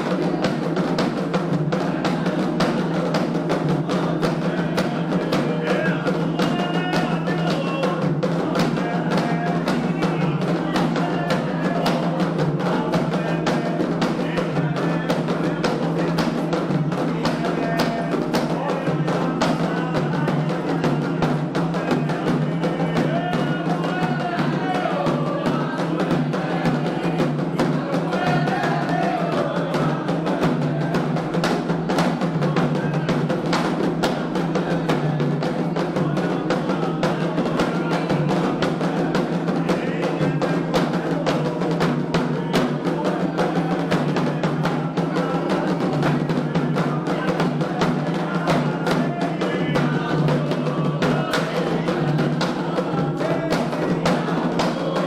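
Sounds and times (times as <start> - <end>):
hand drums playing fast rhythm: 0.0 - 55.0
voices singing: 0.0 - 55.0.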